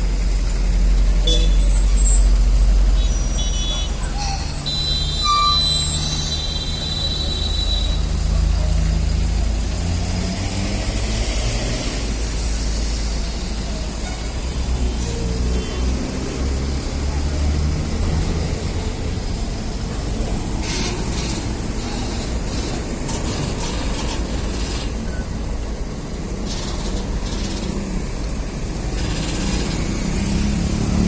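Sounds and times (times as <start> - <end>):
passing road traffic: 0.0 - 31.0
truck engines droning: 0.0 - 31.0.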